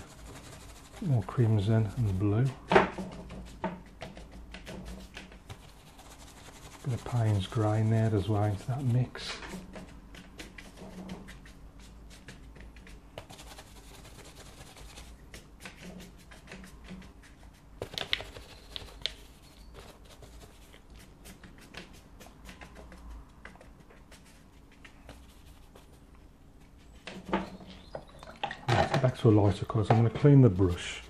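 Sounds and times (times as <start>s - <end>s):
brush scratching on paper: 0.0s - 2.7s, 3.4s - 26.1s, 29.4s - 31.0s.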